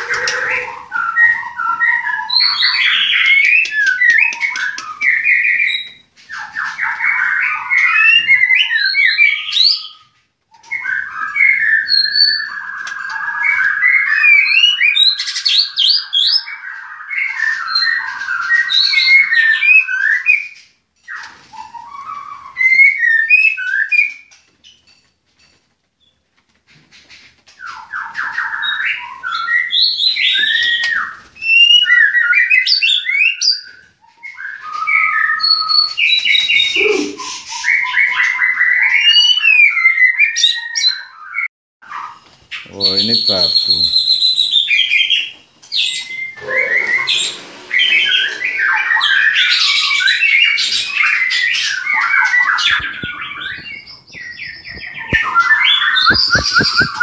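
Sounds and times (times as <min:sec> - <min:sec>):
bird singing whistles and trills: 0:00.0 - 0:24.8, 0:27.6 - 0:57.0.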